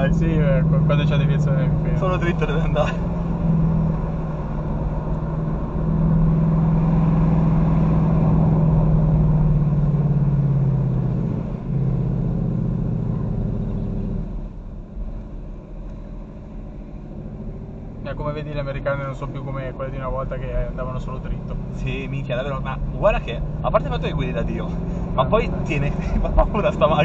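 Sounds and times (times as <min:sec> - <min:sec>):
car engine under load: 0:00.0 - 0:27.0.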